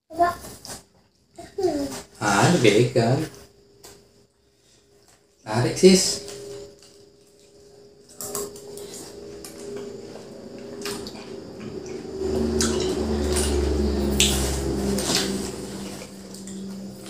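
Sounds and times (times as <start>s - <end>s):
low hum: 2.3s - 17.0s.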